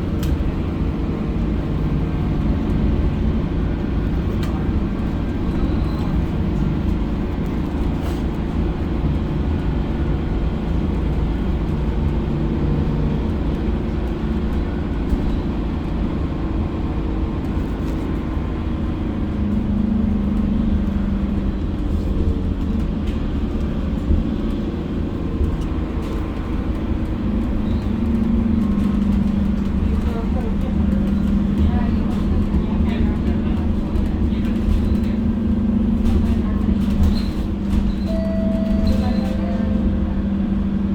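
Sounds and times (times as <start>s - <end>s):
bus engine and road drone: 0.0s - 40.9s.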